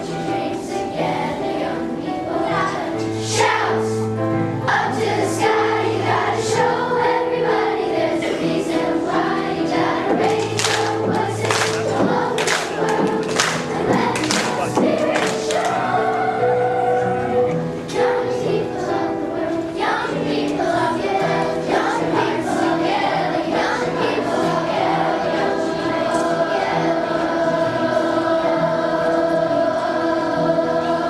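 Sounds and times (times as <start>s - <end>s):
girls singing: 0.0s - 31.0s
musical accompaniment: 0.0s - 31.0s.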